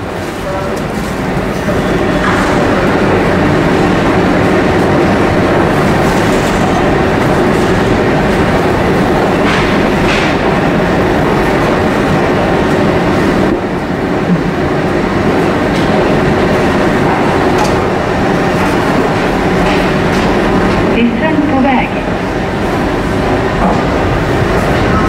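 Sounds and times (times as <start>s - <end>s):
train rolling past: 0.0s - 25.0s.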